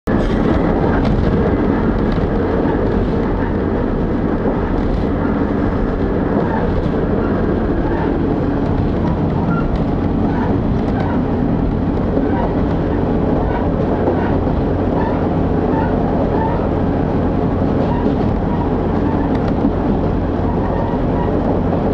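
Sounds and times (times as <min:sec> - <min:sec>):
railcar engine and wheels rumbling: 0:00.0 - 0:21.9.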